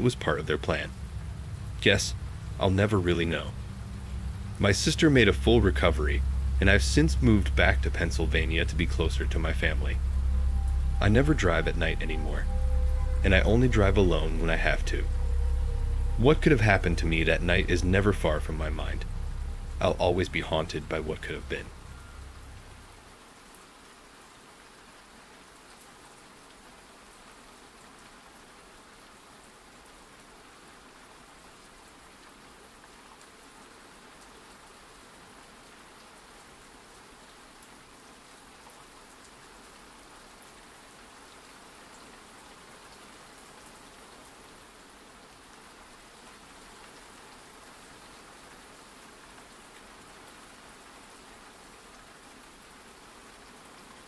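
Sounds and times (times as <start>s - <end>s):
rain hiss and patter: 0.0s - 54.0s.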